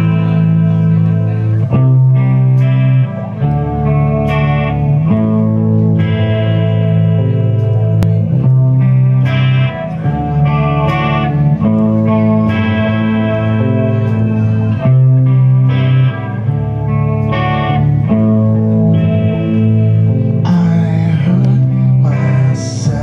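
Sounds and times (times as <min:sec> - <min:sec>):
electric guitar chords: 0:00.0 - 0:23.0
rock band playing: 0:00.0 - 0:23.0.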